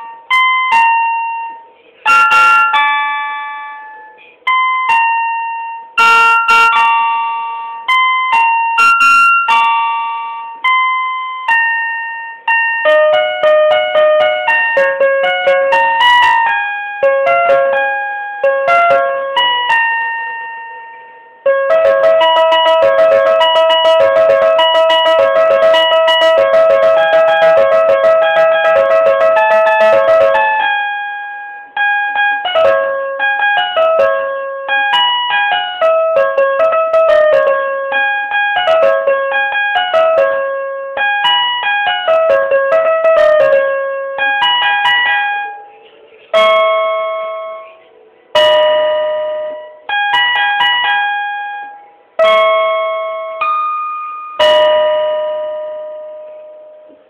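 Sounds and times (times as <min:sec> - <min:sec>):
electronic keyboard piano melody: 0:00.0 - 0:57.0.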